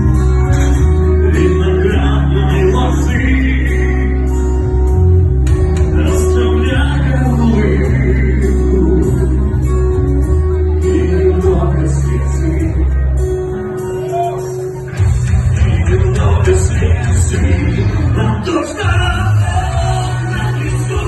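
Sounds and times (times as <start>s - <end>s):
song with guitar and singing: 0.0s - 21.0s
steady bass: 0.0s - 21.0s.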